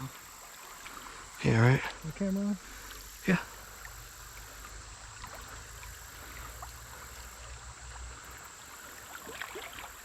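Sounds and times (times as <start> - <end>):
creek water running: 0.0 - 10.0.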